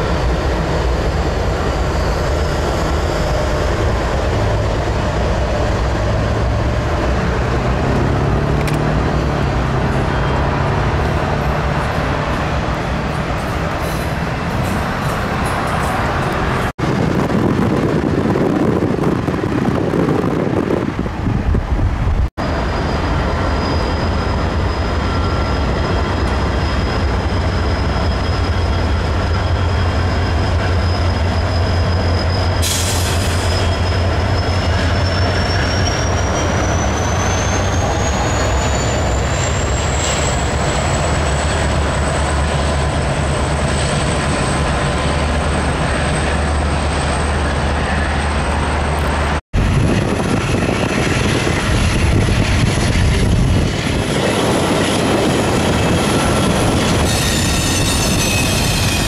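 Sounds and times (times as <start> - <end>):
high squeal: 0.0 - 7.1, 8.0 - 16.5, 22.4 - 59.0
freight train rumbling: 0.0 - 59.0.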